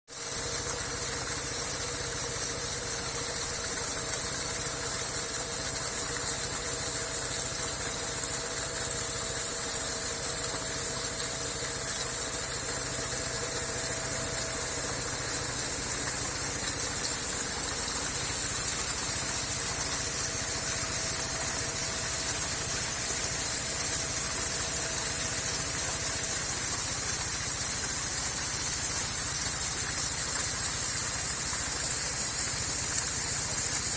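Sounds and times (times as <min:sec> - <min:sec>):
faint steady hum: 0:00.1 - 0:33.9.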